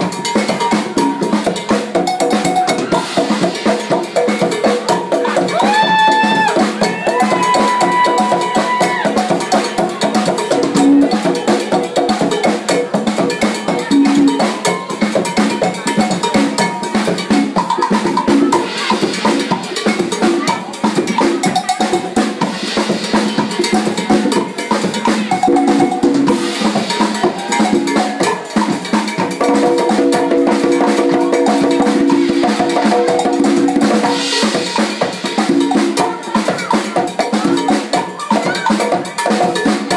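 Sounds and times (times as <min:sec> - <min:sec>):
congas: 0:00.0 - 0:39.9
cowbell: 0:00.0 - 0:39.9.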